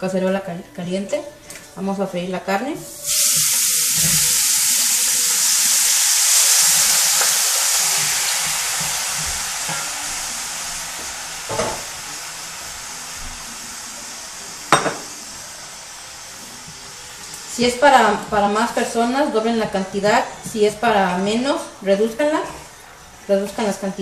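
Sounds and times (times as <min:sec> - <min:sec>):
beef sizzling in a pot: 0:02.8 - 0:24.0.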